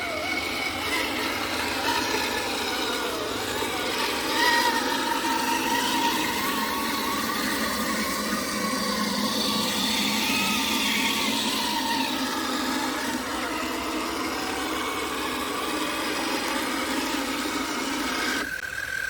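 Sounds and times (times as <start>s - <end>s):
rc car motor whining: 0.0s - 19.0s.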